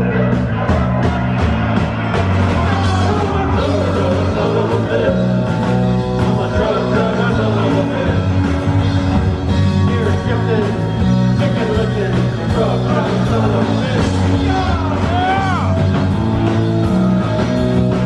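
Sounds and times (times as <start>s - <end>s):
live rock band playing: 0.0s - 18.0s
steady drum beat: 0.0s - 18.0s
sustained bass line: 0.0s - 18.0s.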